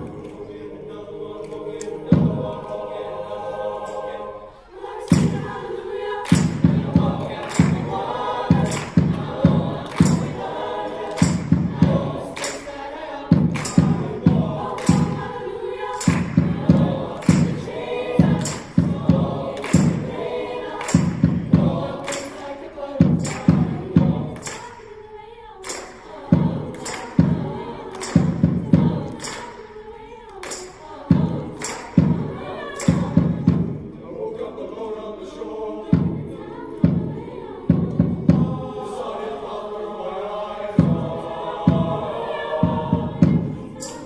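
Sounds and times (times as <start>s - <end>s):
mixed choir singing: 0.0s - 44.0s.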